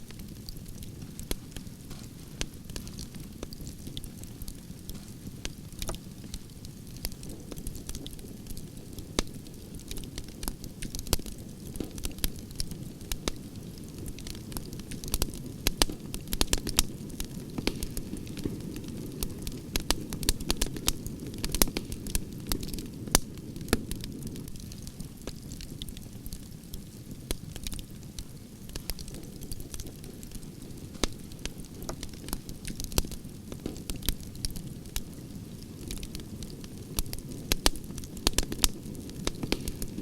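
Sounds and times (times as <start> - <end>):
campfire crackling and popping: 0.0 - 40.0.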